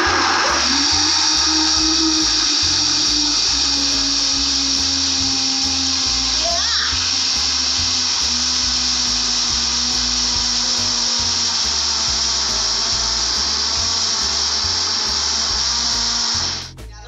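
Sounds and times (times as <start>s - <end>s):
blender running: 0.0s - 16.7s
music beat: 0.0s - 17.0s.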